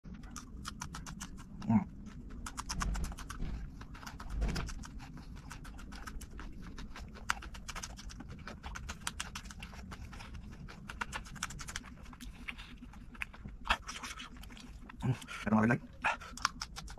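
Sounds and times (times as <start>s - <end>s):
crunching and chewing peppers: 0.1s - 16.9s.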